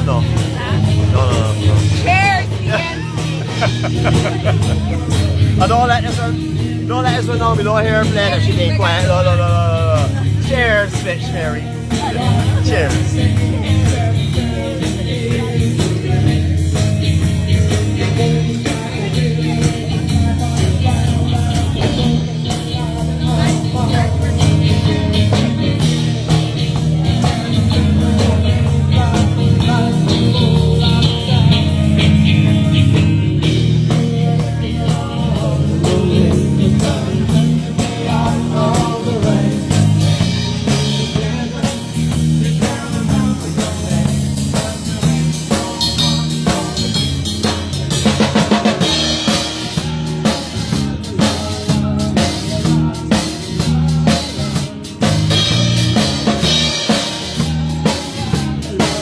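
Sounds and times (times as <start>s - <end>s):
person singing: 0.0s - 59.0s
rock band playing: 0.0s - 59.0s.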